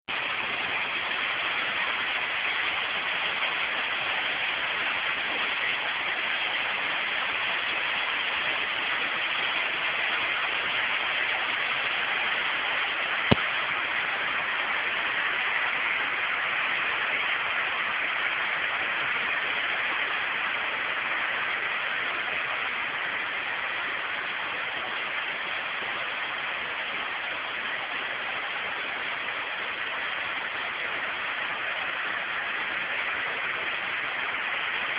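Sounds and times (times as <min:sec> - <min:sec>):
rush of falling water: 0:00.1 - 0:34.9.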